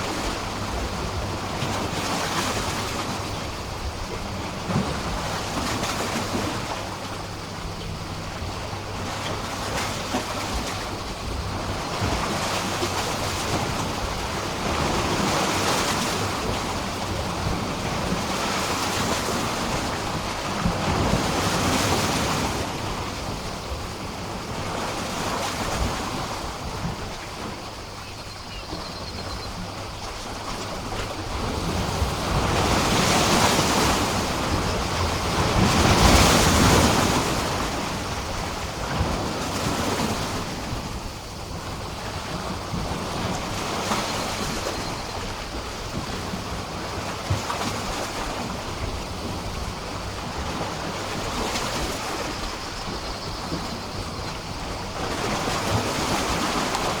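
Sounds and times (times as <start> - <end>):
waves splashing against pier: 0.0 - 28.0, 29.6 - 57.0.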